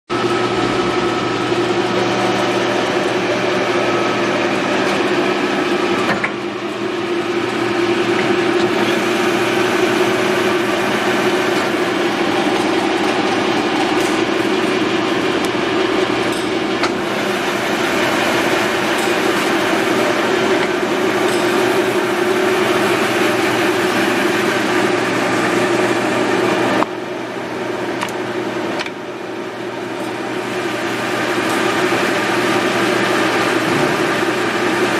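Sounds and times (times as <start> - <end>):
lathe hum and gear whir: 0.1 - 34.9.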